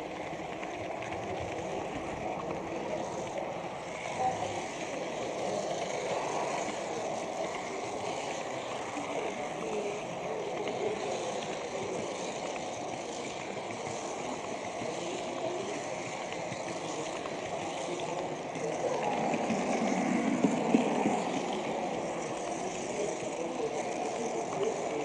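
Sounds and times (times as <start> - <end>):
model train rumbling on track: 0.0 - 25.0
murmur of voices: 0.0 - 25.0.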